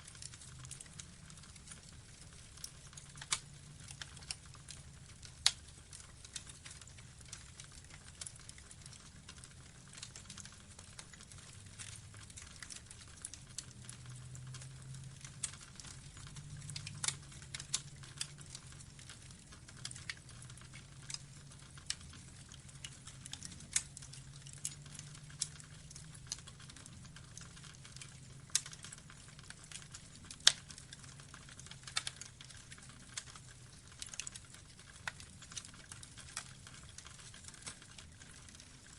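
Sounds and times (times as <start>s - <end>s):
burning logs crackling: 0.0s - 38.9s
fire pops and snaps: 0.0s - 38.9s.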